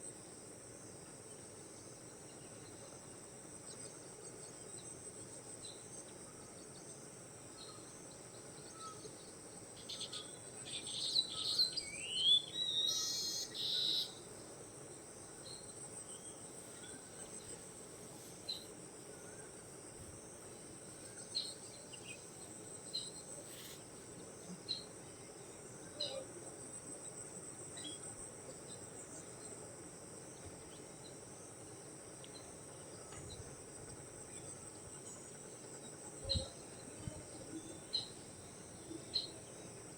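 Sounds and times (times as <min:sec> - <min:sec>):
high-pitched insect chorus: 0:01.0 - 0:39.9.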